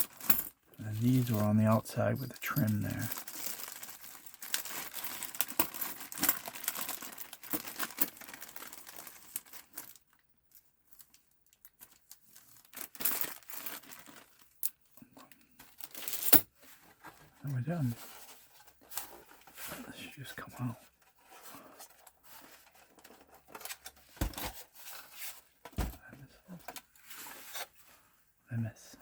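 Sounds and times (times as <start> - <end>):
crinkling and rustling: 0.0 - 28.3.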